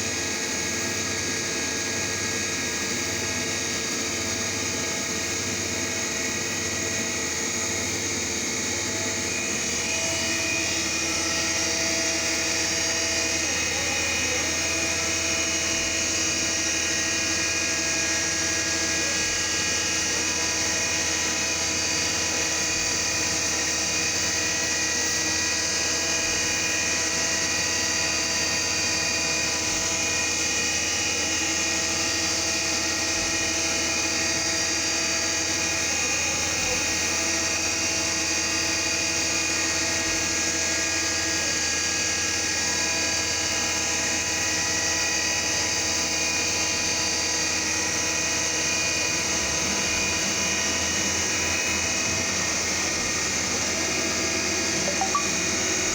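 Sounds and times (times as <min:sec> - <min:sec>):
milling machine whine: 0:00.0 - 0:55.9.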